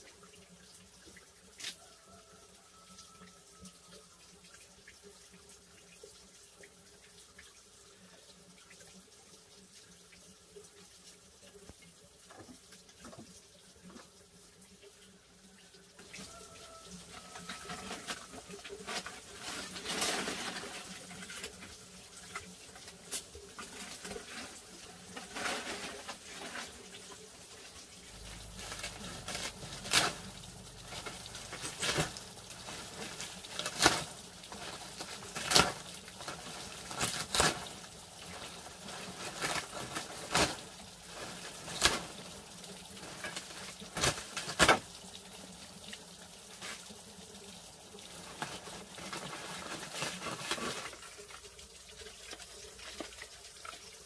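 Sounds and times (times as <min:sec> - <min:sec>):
water running and splashing: 0:00.0 - 0:54.0.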